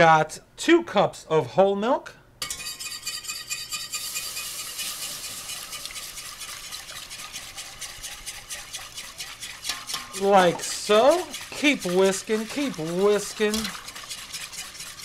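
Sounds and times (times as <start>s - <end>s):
whisk beating in metal saucepan: 2.4s - 15.0s.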